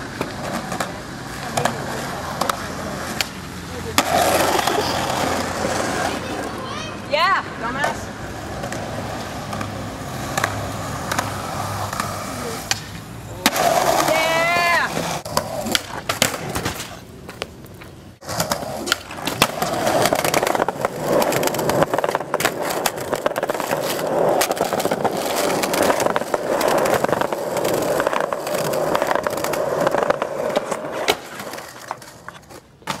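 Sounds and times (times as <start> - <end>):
skateboard clacking on ground: 0.0 - 6.9, 7.6 - 33.0
skateboard wheel rumble: 0.0 - 33.0.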